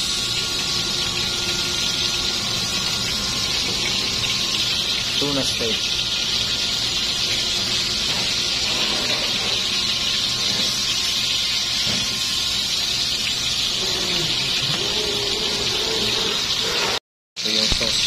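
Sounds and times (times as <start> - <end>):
fish sizzling in frying pan: 0.0 - 16.8.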